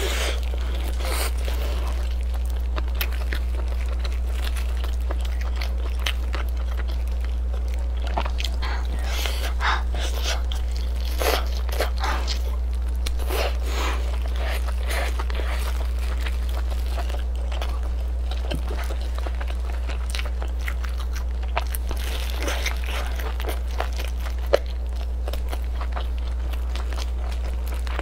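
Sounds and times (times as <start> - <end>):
close chewing and biting: 0.0 - 28.0
steady low hum: 0.0 - 28.0.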